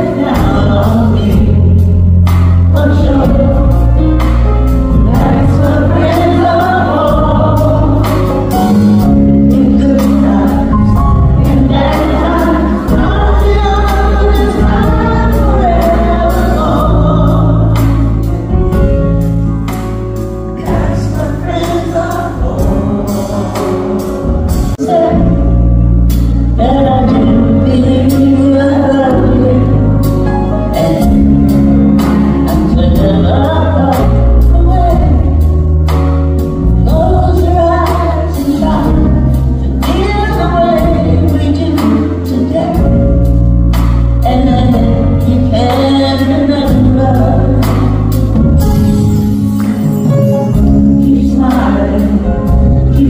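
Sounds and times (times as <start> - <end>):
song with singing voices: 0.0 - 53.0.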